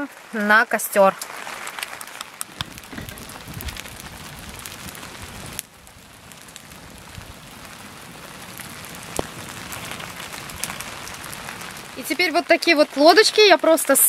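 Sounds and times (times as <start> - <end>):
rain on a tarp: 0.0 - 14.0.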